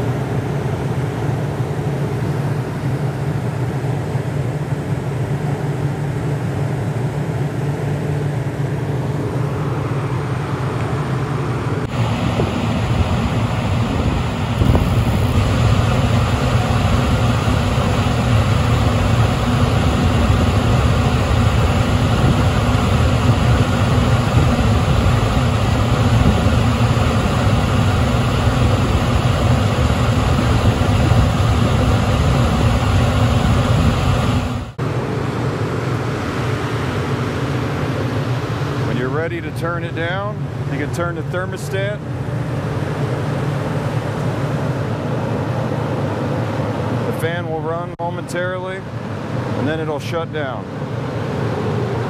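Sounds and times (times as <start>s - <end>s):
gas heater blower and burner roaring: 0.0s - 52.0s.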